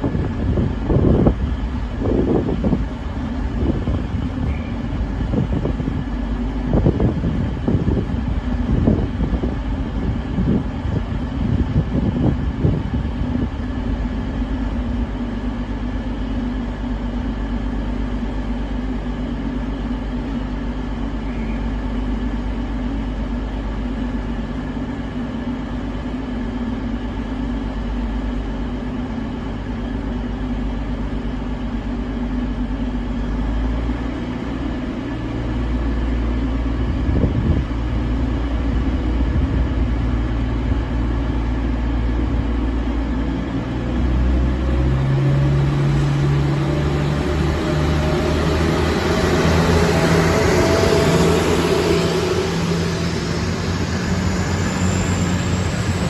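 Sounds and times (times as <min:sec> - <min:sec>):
steady whine: 0:00.0 - 0:56.0
train diesel engines idling: 0:00.0 - 0:56.0.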